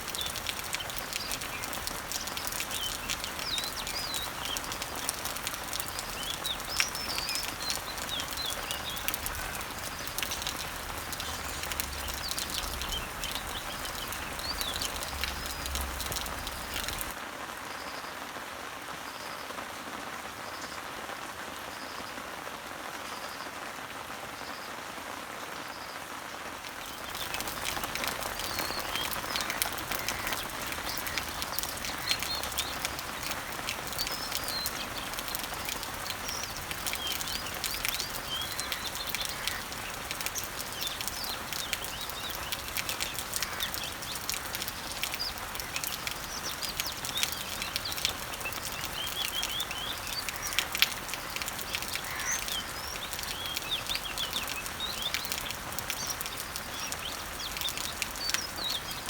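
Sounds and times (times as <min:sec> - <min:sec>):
birds chirping: 0:00.0 - 0:17.2, 0:26.7 - 0:59.0
rain pattering on leaves: 0:00.0 - 0:59.0.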